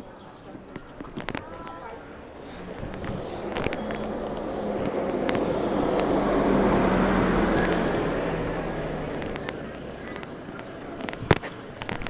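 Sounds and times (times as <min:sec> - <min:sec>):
motor vehicle passing: 0:02.0 - 0:12.0.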